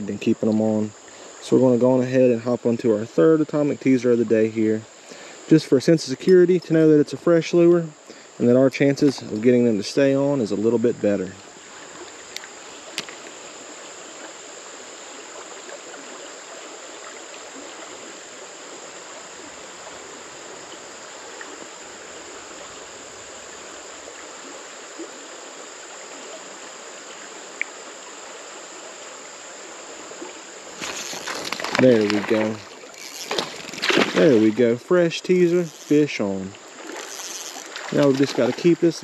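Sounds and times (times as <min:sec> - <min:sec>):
creek water flowing: 0:00.0 - 0:39.0.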